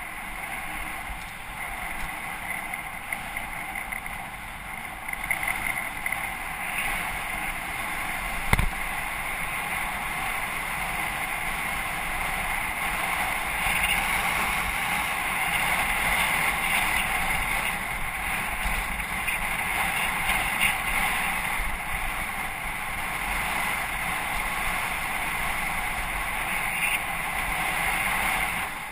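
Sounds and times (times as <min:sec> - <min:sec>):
wind over microphone: 0:00.0 - 0:28.9.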